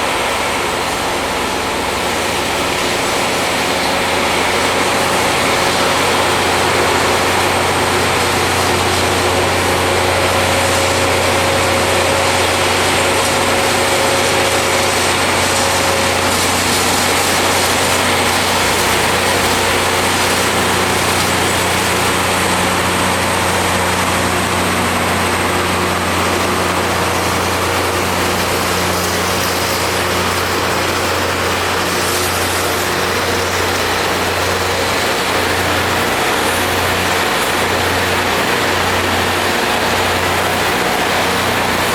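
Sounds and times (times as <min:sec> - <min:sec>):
rail grinding machine: 0:00.0 - 0:41.9.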